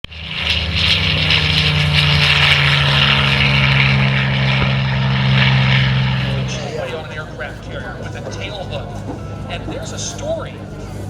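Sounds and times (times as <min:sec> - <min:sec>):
propeller plane droning past: 0:00.0 - 0:11.0.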